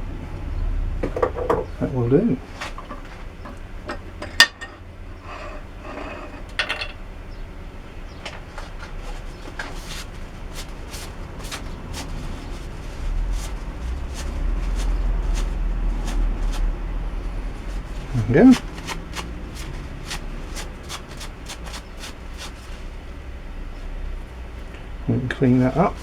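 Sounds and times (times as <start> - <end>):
low hum: 0.0 - 8.1, 11.1 - 26.0.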